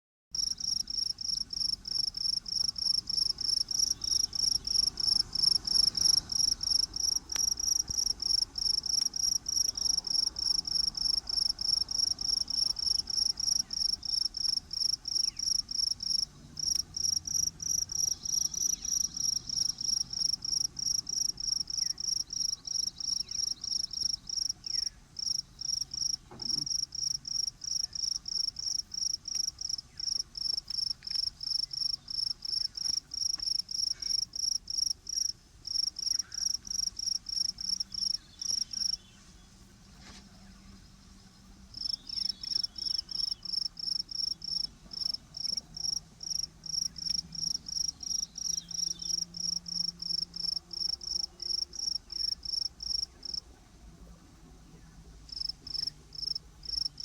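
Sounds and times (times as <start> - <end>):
cricket chirping: 0.4 - 39.0, 41.7 - 53.4, 55.3 - 57.0.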